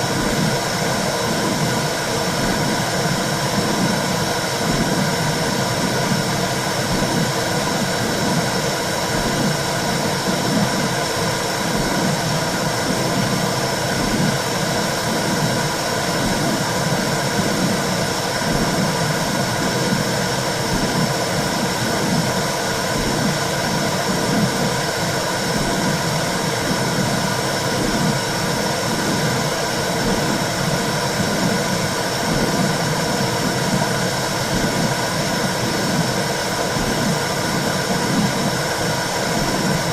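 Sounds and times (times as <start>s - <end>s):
low rhythmic heartbeat pulse: 0.0s - 39.9s.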